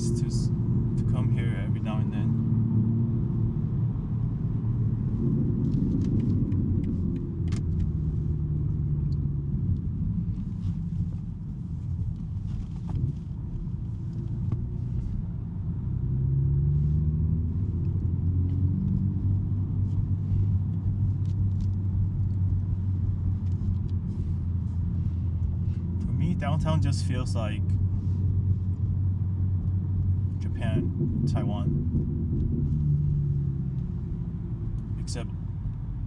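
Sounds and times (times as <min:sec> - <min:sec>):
car engine and exhaust drone: 0:00.0 - 0:36.0.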